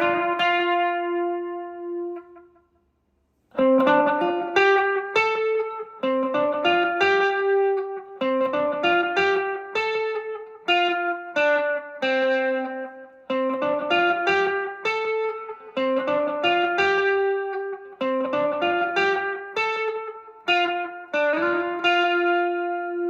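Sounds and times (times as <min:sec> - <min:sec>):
electric guitar single-note phrase: 0:00.0 - 0:02.6, 0:03.6 - 0:23.0.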